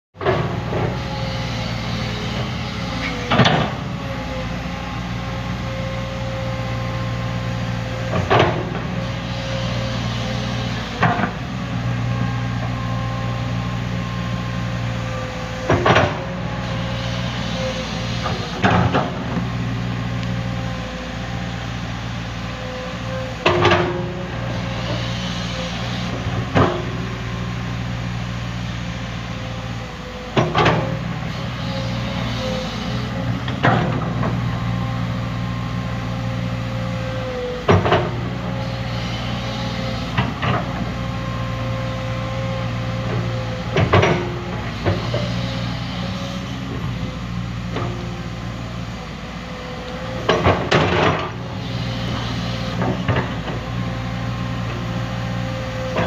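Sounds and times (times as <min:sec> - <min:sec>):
excavator diesel engine running: 0:00.2 - 0:56.0.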